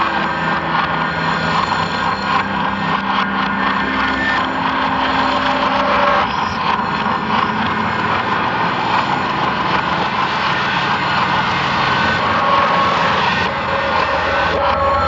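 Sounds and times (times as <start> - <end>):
loud dense noise drone: 0.0 - 15.0.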